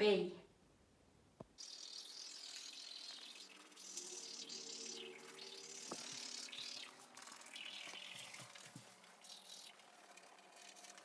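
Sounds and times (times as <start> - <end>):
toothbrush scrubbing teeth: 1.6 - 11.0.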